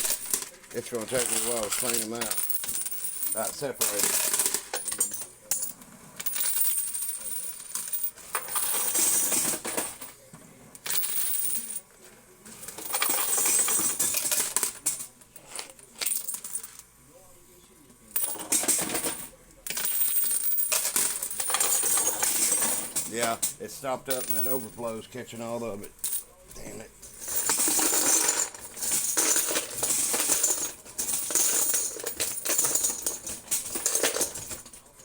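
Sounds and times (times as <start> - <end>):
coins clattering and jingling: 0.0 - 10.2, 10.8 - 11.8, 12.5 - 16.8, 18.1 - 25.1, 25.9 - 35.0.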